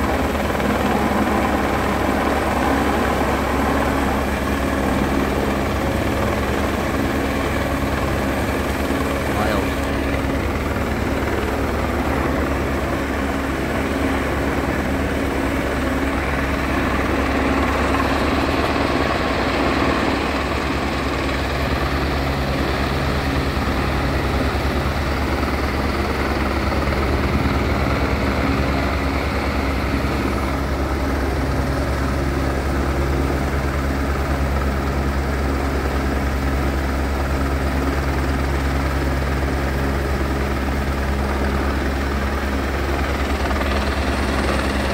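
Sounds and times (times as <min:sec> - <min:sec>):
helicopter hovering: 0:00.0 - 0:44.9.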